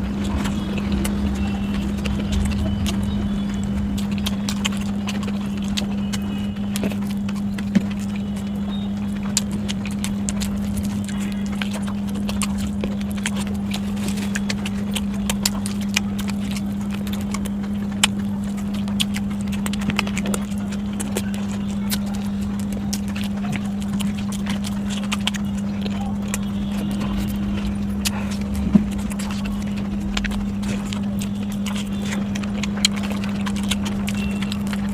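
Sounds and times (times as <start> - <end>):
steady low hum: 0.0 - 34.9
wet chewing and crunching: 0.0 - 34.9.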